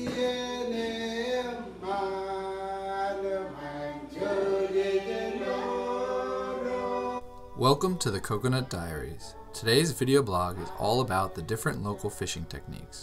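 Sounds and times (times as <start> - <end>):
a cappella choir singing: 0.0 - 13.0.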